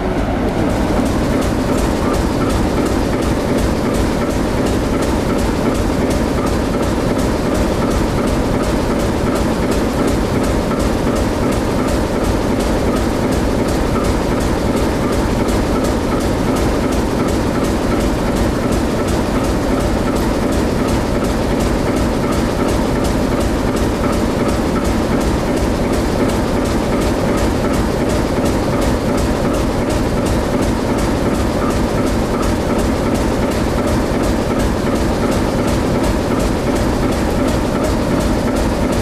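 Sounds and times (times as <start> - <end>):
diesel locomotive idling: 0.0 - 39.0.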